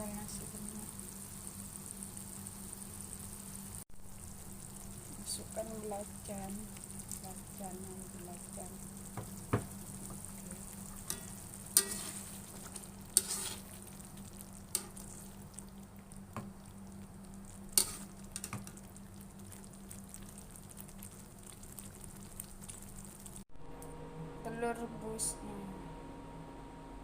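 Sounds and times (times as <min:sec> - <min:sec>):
food sizzling in a pan: 0:00.0 - 0:23.5.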